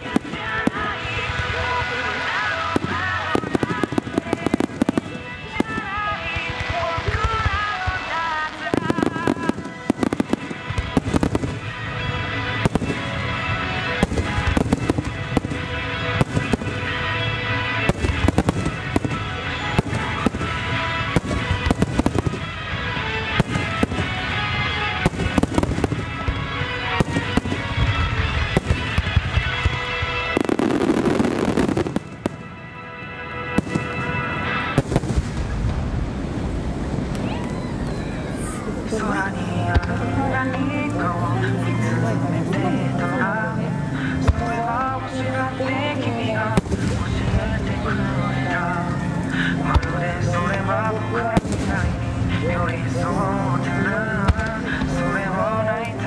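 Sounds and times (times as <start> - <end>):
music playing: 0.0 - 56.0.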